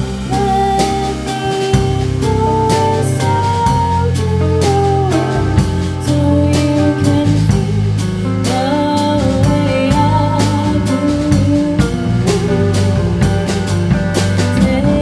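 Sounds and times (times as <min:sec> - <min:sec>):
drum kit beat: 0:00.0 - 0:15.0
electric bass: 0:00.0 - 0:15.0
electric guitar: 0:00.0 - 0:15.0
woman singing: 0:00.2 - 0:13.6, 0:14.4 - 0:15.0.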